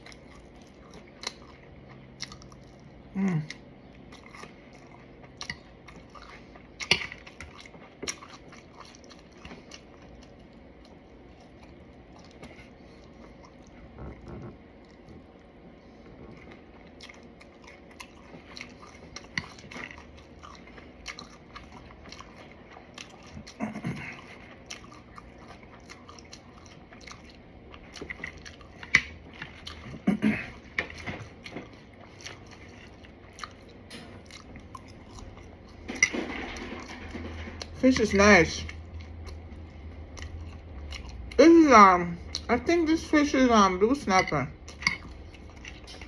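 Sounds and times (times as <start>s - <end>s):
chewing crunchy fried food: 0.0s - 46.0s.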